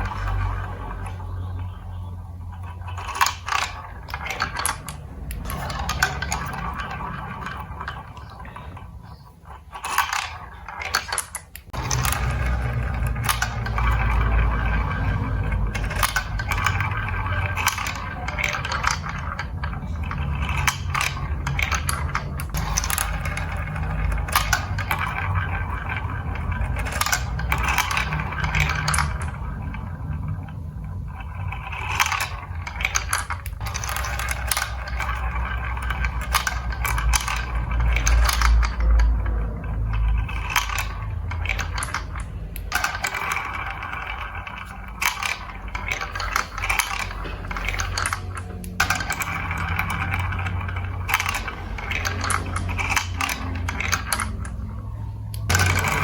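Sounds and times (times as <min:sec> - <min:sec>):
marbles clicking against blocks: 0:00.0 - 0:56.0
marbles rolling rumble: 0:00.0 - 0:56.0.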